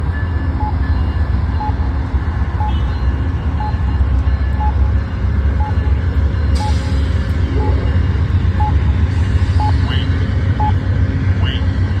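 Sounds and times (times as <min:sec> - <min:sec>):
train rumbling across bridge: 0:00.0 - 0:12.0.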